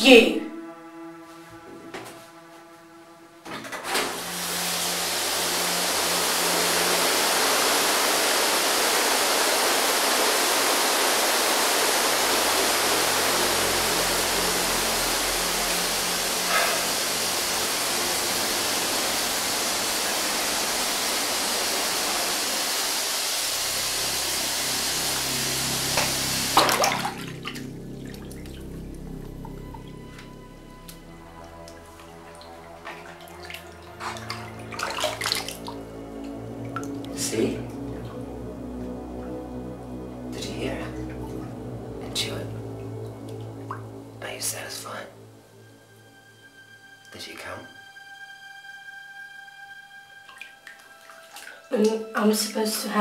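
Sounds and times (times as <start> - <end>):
shower spraying water: 4.0 - 45.0, 50.3 - 52.0.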